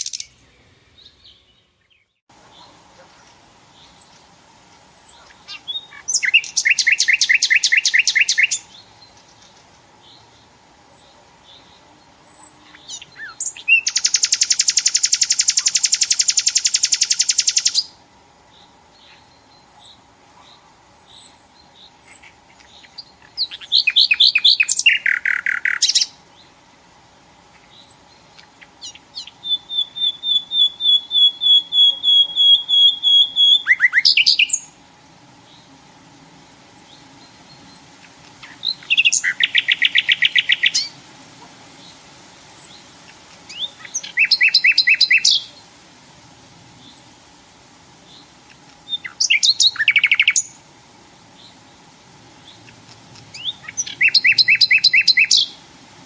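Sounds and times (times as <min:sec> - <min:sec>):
nightingale singing: 0:00.0 - 0:41.0, 0:41.7 - 0:45.8, 0:46.6 - 0:55.8.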